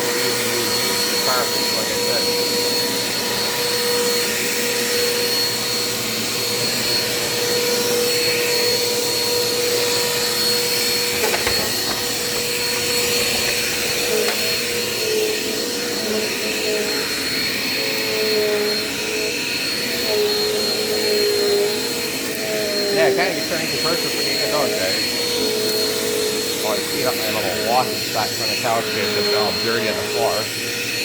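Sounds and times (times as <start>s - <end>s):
vacuum cleaner motor whine: 0.0s - 31.0s.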